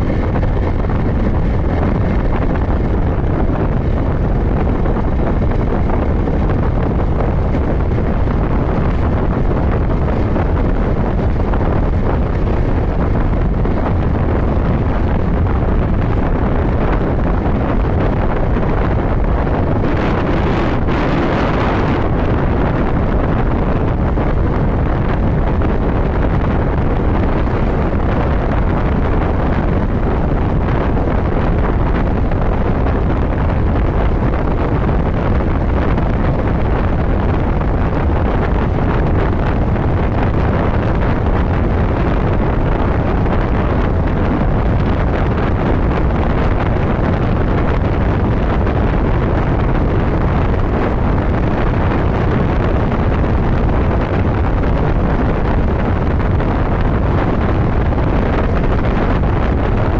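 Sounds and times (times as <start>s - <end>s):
motorcycle engine and road noise: 0.0s - 59.9s
wind noise on microphone: 0.0s - 59.9s.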